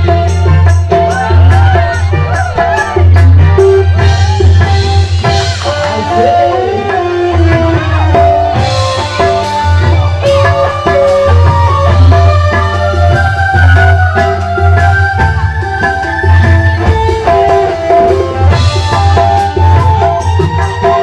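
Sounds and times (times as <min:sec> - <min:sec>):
loud music with bass and guitar: 0:00.0 - 0:21.0.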